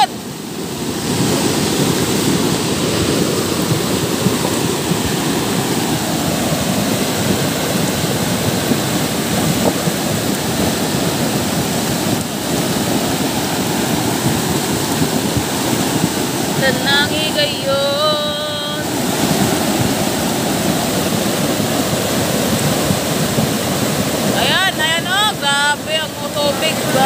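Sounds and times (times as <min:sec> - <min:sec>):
floodwater rushing: 0:00.0 - 0:27.0
heavy rain falling: 0:00.0 - 0:27.0.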